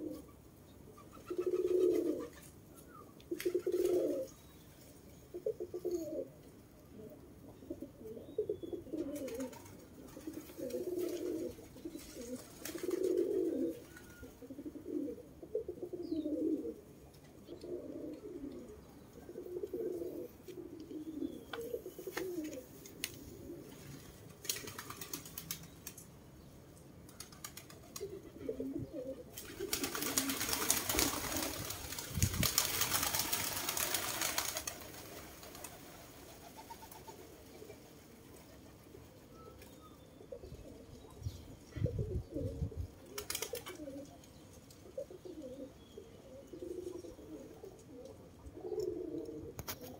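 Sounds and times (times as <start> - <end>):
pigeons cooing: 0.0 - 4.4, 5.2 - 25.4, 27.2 - 49.9.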